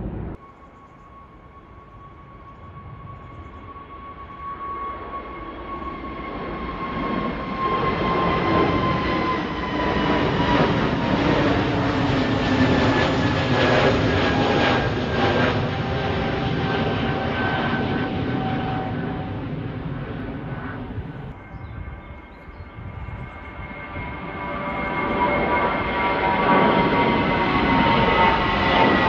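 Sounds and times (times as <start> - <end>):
jet airliner taking off: 0.0 - 29.0.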